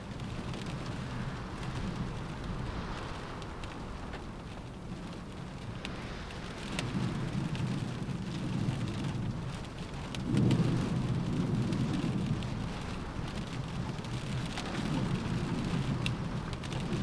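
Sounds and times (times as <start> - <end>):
rain drops ticking on window: 0.0 - 17.0.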